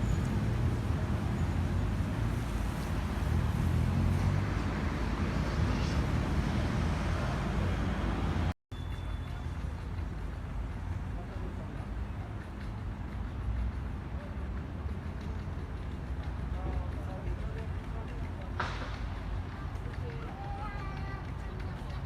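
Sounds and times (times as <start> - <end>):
passing traffic rumble: 0.0 - 22.0.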